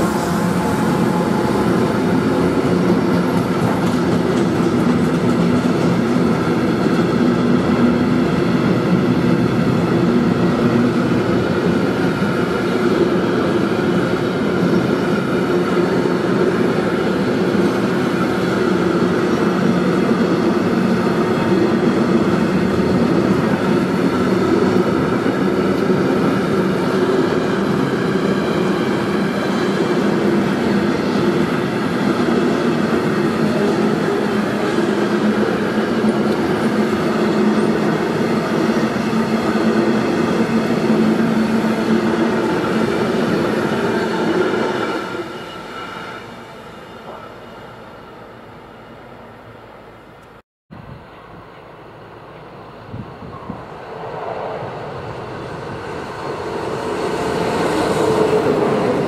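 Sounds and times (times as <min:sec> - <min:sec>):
freight train rolling past: 0:00.0 - 0:50.3, 0:50.9 - 0:59.0.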